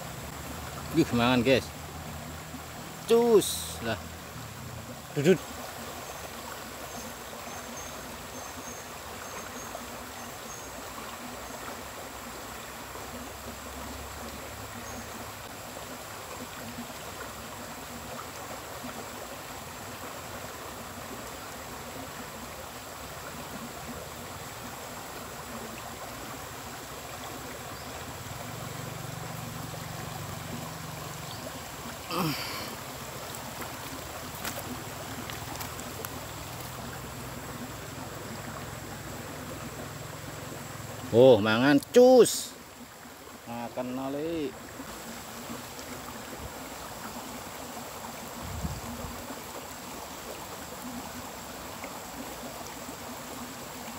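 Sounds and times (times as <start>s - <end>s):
stream running: 0.0s - 53.9s.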